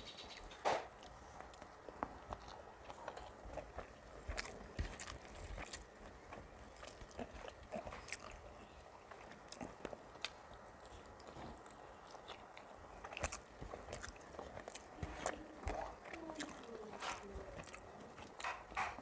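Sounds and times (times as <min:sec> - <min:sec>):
close chewing with mouth smacks: 0:00.3 - 0:19.0.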